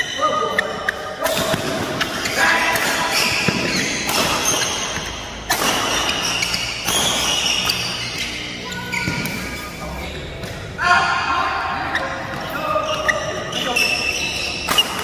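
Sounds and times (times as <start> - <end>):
shoes squeaking on court: 0.0 - 10.7, 11.7 - 15.0.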